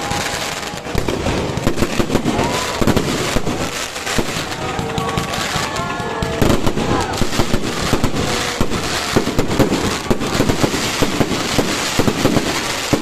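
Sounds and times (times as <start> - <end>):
distant fireworks rumble: 0.0 - 13.0
fireworks bangs and crackling: 0.0 - 13.0.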